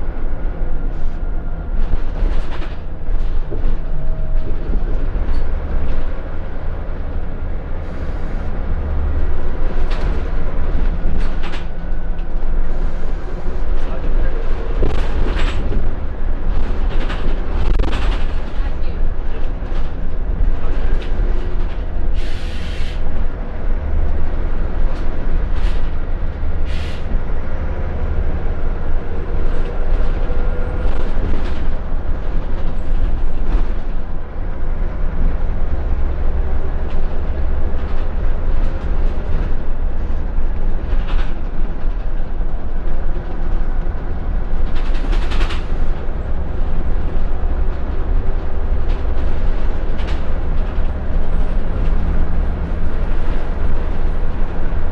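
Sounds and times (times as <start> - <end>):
bus diesel engine and road drone: 0.0 - 54.9
rattles of bus body: 0.0 - 54.9.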